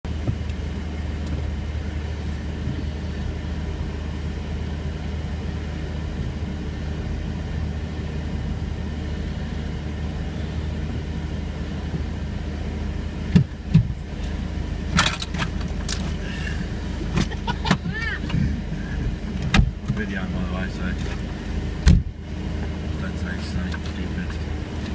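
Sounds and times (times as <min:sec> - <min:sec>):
car engine droning: 0:00.0 - 0:24.9.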